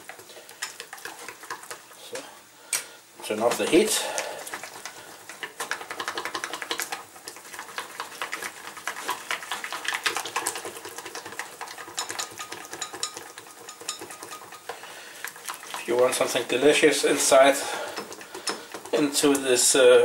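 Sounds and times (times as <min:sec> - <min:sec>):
wire whisk scraping a saucepan: 0:03.6 - 0:19.8.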